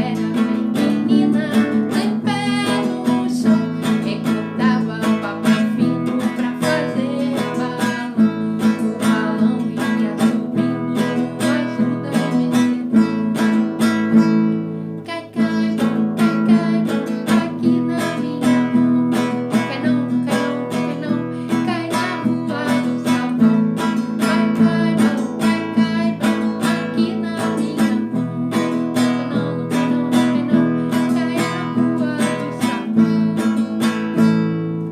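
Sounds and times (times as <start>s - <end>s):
acoustic guitar strumming: 0.0s - 34.9s.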